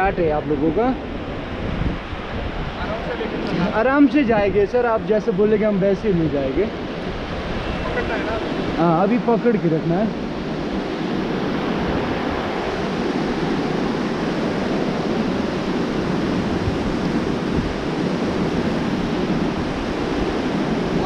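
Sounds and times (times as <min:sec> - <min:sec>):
whitewater rapids rushing: 0:02.7 - 0:21.0.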